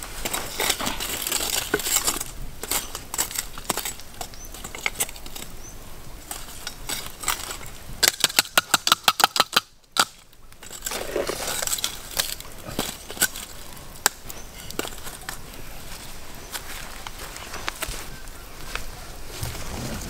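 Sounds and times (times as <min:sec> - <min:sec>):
charcoal chunks clinking against tongs: 0:00.2 - 0:05.6, 0:06.2 - 0:17.9.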